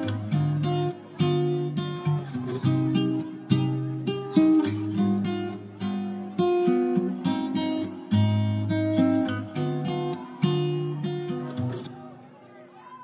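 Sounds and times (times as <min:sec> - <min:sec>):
acoustic guitar music: 0:00.0 - 0:12.3.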